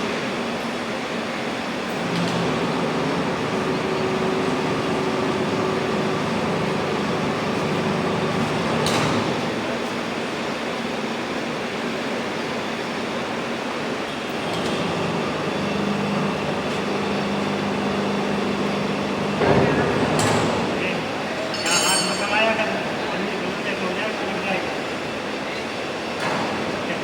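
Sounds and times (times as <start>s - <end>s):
furnace machinery noise: 0.0s - 27.0s.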